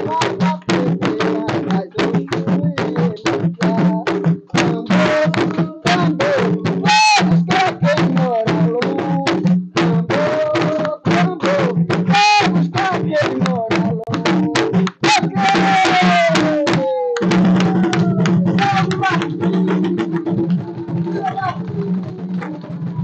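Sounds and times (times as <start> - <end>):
hand drums beating fast rhythm: 0.0 - 23.0
voices singing: 0.0 - 23.0.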